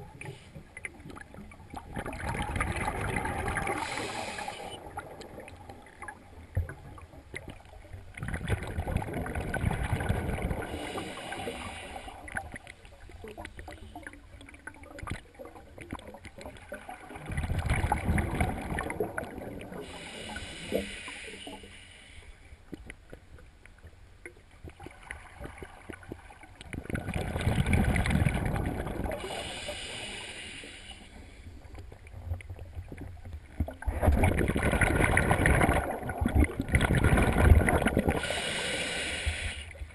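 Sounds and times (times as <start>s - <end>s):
underwater regulator bubbles: 0.0s - 21.6s, 24.6s - 30.8s, 31.7s - 39.6s.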